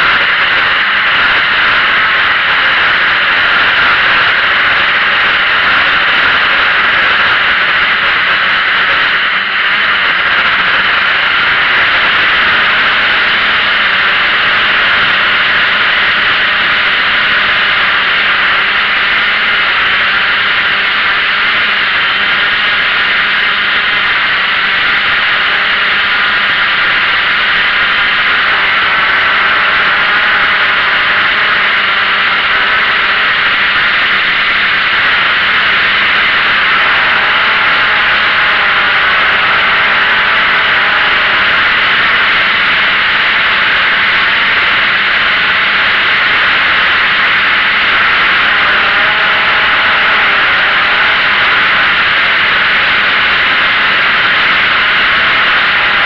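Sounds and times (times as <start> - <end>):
drone propellers whirring: 0.0 - 56.0.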